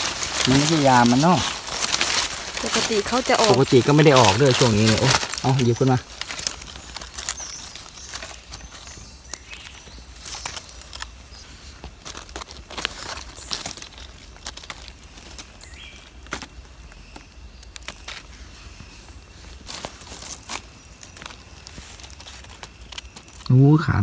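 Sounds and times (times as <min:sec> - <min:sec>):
dry leaf litter crackling: 0:00.0 - 0:24.0.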